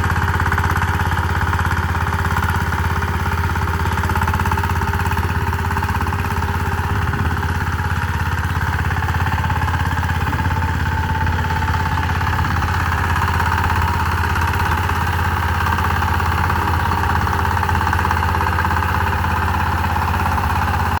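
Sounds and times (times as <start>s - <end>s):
tiller engine chugging: 0.0s - 21.0s.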